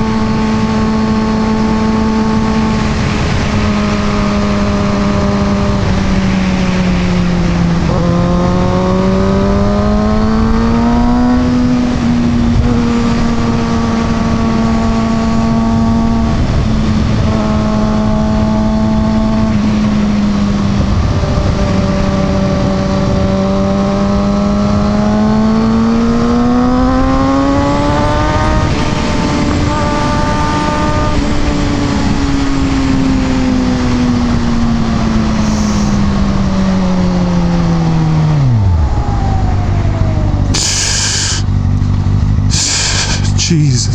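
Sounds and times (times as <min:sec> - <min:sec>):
wind rush on microphone: 0:00.0 - 0:25.6, 0:26.4 - 0:40.7
motorcycle engine at speed: 0:00.0 - 0:43.9.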